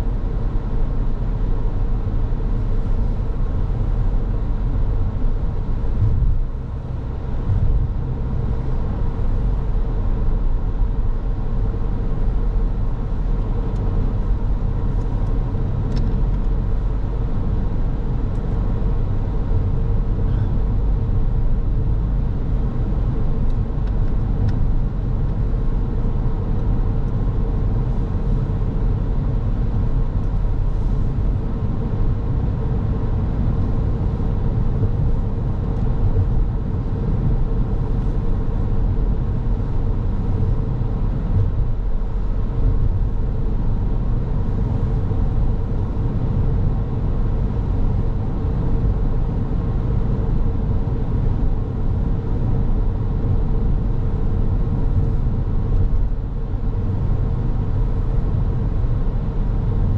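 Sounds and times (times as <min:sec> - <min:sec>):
car engine noise: 0:00.0 - 0:59.9
car road and tyre rumble: 0:00.0 - 0:59.9
faint constant hum: 0:00.0 - 0:59.9.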